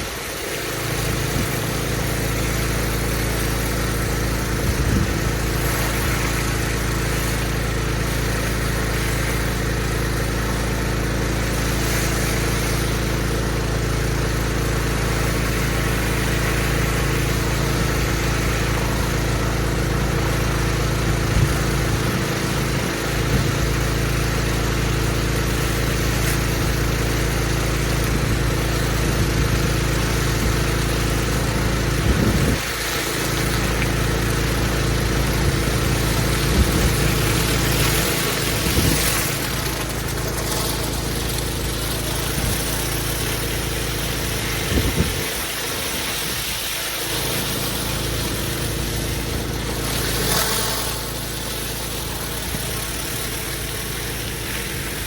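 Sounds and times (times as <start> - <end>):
pressure washer engine running: 0.0 - 55.0
water jet hissing on paving: 0.0 - 55.0.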